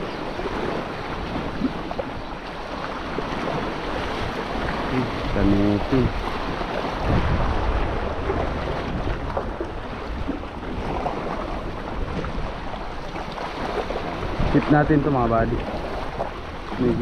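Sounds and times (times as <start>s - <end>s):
waves washing over rocks: 0.0s - 17.0s
wind buffeting microphone: 0.0s - 17.0s.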